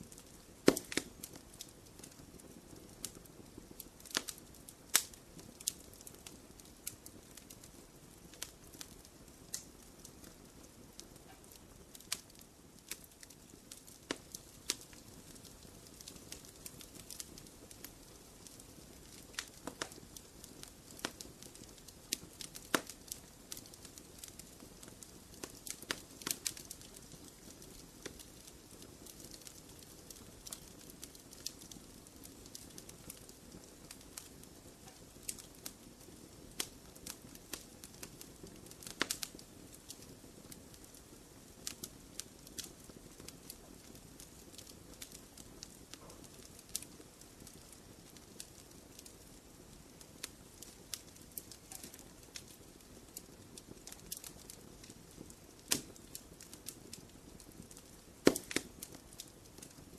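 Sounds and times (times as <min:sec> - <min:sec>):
fire pops and snaps: 0:00.0 - 0:59.9
rustle of flames: 0:00.0 - 0:59.9.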